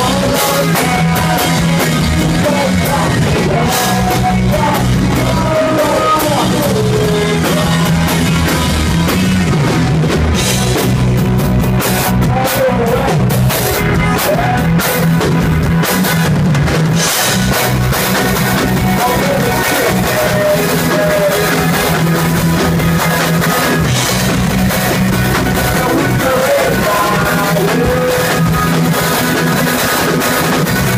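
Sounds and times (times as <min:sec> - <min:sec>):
distorted electric guitars: 0:00.0 - 0:30.9
driving drum kit: 0:00.0 - 0:30.9.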